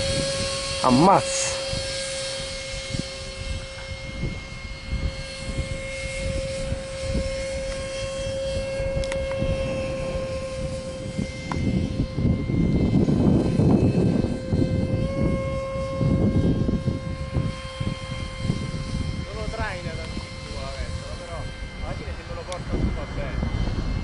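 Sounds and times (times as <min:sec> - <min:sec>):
model airplane motor hum: 0:00.0 - 0:24.0.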